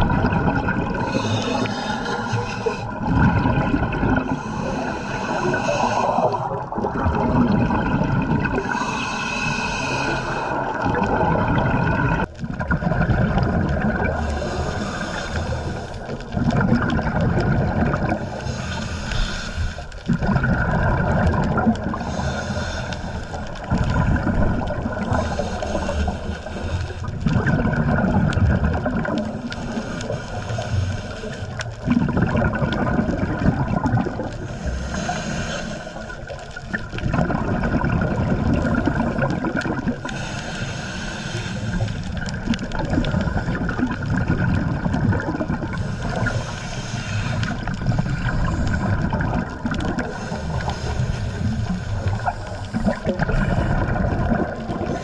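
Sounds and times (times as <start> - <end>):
low rumble of water: 0.0 - 55.0
regulator bubbles gurgling: 0.0 - 55.0.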